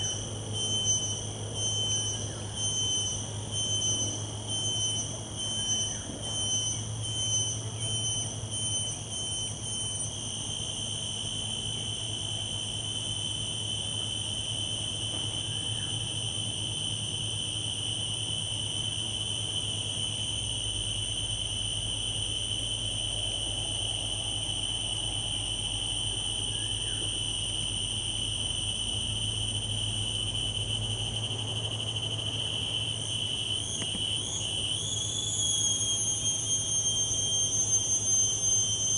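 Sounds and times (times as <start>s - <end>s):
insect high whine: 0.0s - 38.9s
low steady hum: 0.0s - 38.9s.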